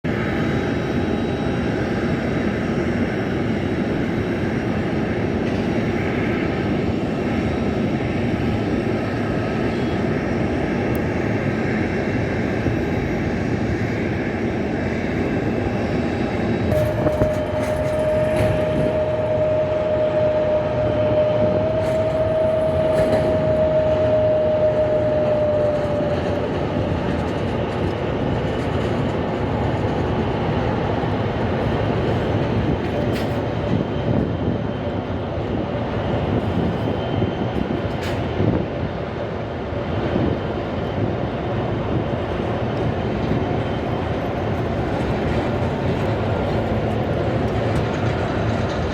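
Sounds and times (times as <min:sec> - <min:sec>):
jet engine whine: 0:00.0 - 0:48.9
jet engines roaring: 0:00.0 - 0:48.9.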